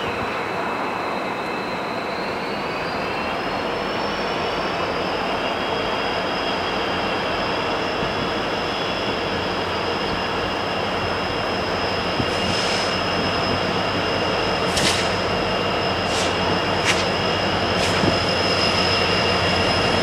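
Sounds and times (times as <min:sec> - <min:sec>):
high wheel whine: 0:00.0 - 0:20.0
train wheels rushing on rail: 0:00.0 - 0:20.0.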